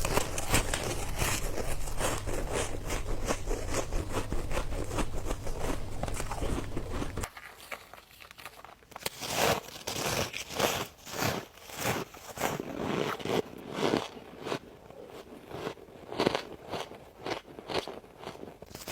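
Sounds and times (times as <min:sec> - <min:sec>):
ice being chewed: 0:00.0 - 0:18.9.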